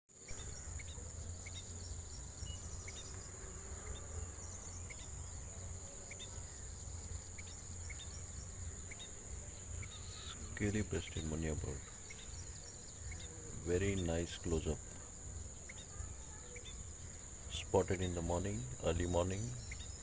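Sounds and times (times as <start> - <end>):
faint bird chirps: 0.1 - 20.0
high-pitched insect drone: 0.2 - 20.0.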